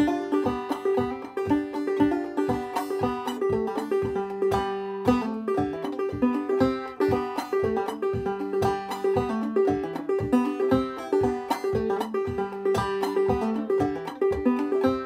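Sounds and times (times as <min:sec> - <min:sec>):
banjo plucked and strummed: 0:00.0 - 0:15.0.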